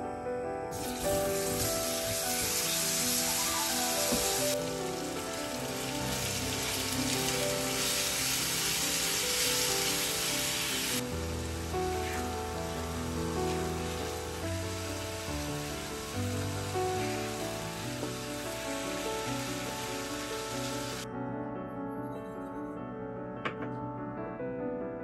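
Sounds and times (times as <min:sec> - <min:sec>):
soft background music: 0:00.0 - 0:25.0
banana slices sizzling in a pan: 0:00.7 - 0:21.0.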